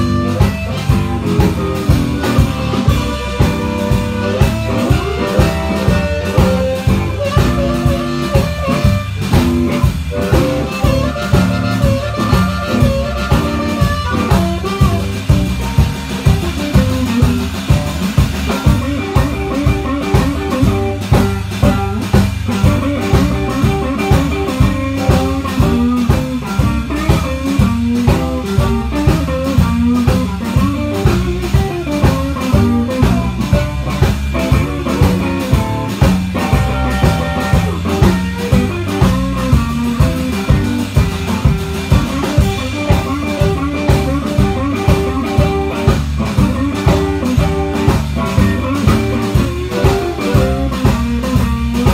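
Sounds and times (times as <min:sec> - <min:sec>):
blues band playing: 0:00.0 - 0:51.9
drum kit beat: 0:00.0 - 0:51.9
electric guitar: 0:00.0 - 0:51.9.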